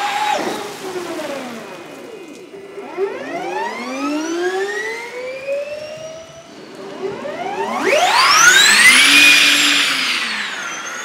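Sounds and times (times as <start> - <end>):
electric race car motor whining: 0.0 - 11.0.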